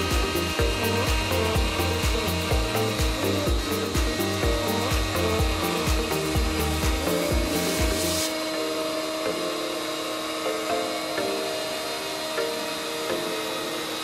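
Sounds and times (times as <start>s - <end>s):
electronic music with kick drum: 0.0s - 14.0s
router spindle whining: 0.0s - 14.0s.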